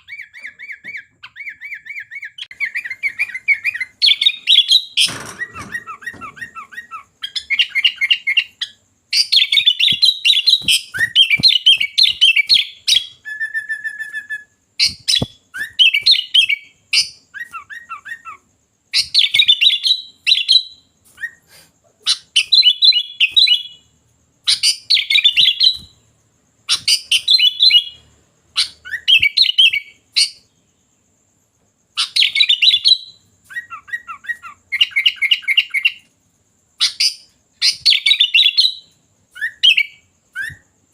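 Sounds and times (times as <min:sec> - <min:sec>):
bird chattering song: 0:00.0 - 0:30.8, 0:31.9 - 0:36.1.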